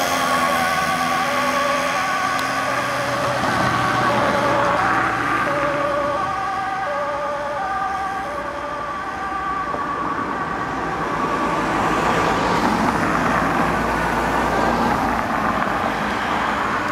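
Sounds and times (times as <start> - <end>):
fire engine two-tone siren: 0.0 - 16.9
passing vehicle engine rumble: 0.0 - 16.9.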